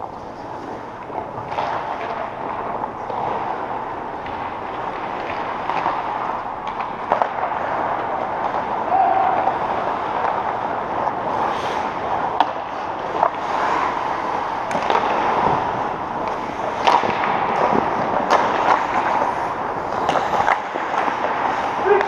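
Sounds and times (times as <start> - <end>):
skates scraping ice: 0.0 - 22.0
sticks clacking on puck: 0.0 - 22.0.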